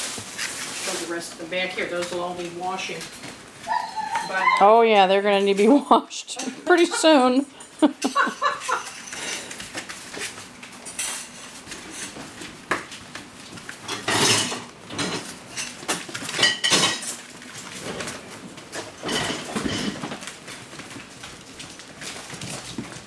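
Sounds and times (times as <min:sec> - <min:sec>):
puppies scuffling paws: 0:00.0 - 0:23.0
puppies scrabbling: 0:00.2 - 0:04.9, 0:06.6 - 0:23.0.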